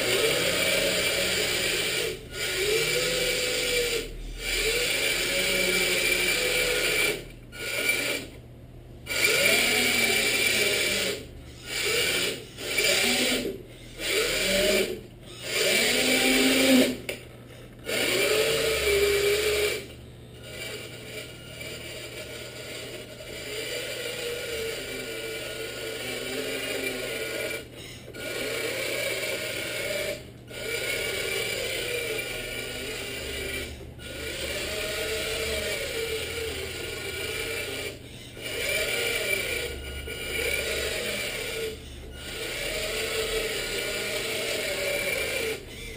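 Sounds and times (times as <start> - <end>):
electric motor whining: 0.0 - 45.9.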